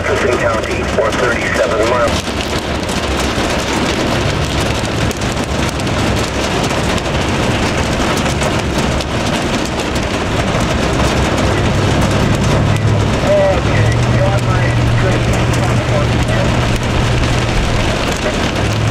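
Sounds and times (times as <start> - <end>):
engine humming: 0.0 - 18.9
heavy rain on truck roof: 0.0 - 18.9.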